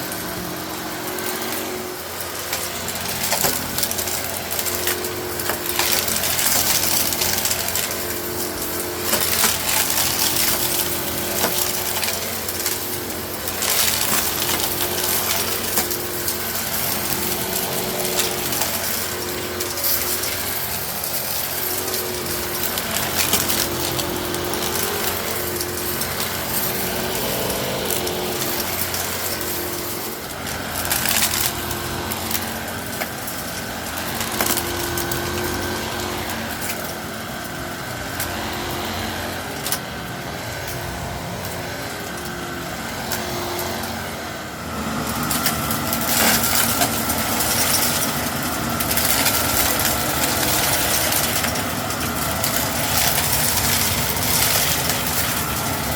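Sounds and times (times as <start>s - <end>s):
gravel rattling through vacuum: 0.0s - 55.9s
vacuum motor hum: 0.0s - 55.9s.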